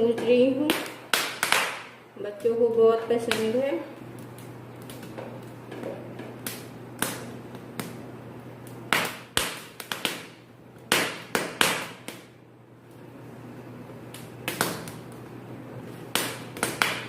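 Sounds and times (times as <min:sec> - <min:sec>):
corn kernels crackling and popping: 0:00.6 - 0:13.2, 0:13.9 - 0:17.0.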